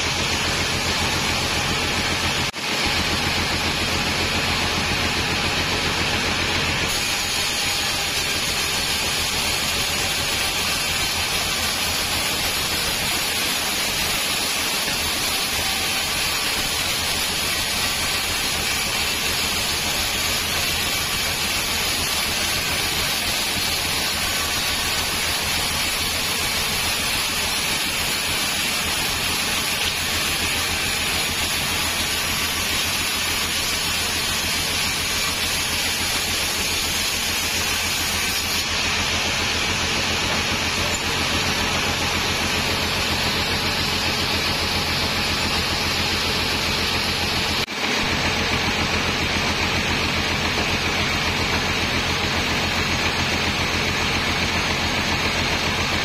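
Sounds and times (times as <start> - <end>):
saw blade hissing through wood: 0.0 - 56.0.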